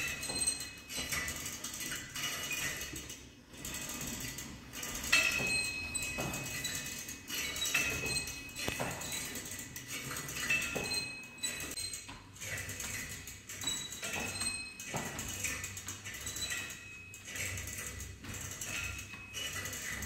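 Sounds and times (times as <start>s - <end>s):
exercise machine clinking and squeaking: 0.0s - 20.0s.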